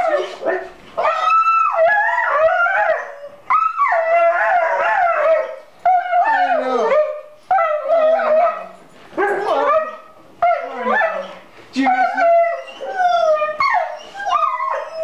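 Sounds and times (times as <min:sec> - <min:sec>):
dog howling and whining: 0:00.0 - 0:15.0.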